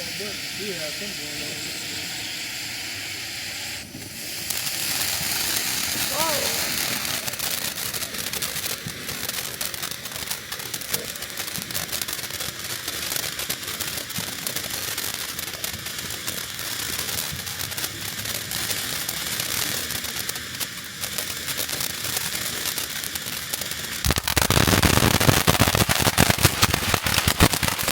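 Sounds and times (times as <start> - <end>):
firework crackling: 0.0 - 27.9
firework hiss: 0.0 - 27.9.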